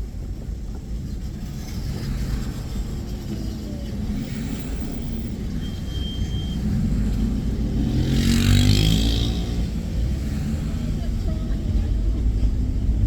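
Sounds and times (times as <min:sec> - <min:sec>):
road rumble: 0:00.0 - 0:13.0.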